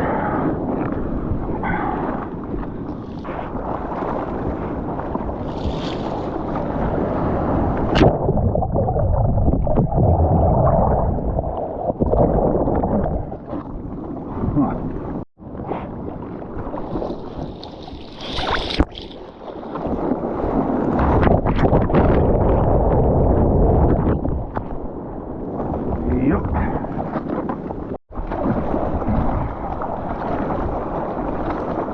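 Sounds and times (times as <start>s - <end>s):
water rushing and sloshing: 0.0s - 31.9s
wind buffeting microphone: 0.0s - 31.9s.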